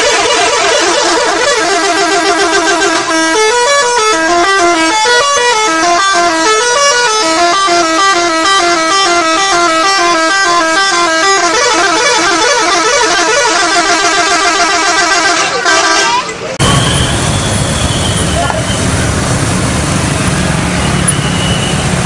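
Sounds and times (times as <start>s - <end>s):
musical bus air horn: 0.0s - 18.3s.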